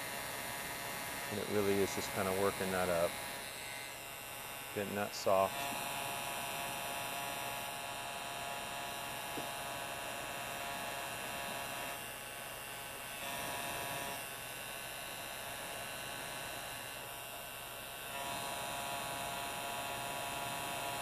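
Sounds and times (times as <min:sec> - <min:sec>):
heat gun fan humming: 0:00.0 - 0:21.0.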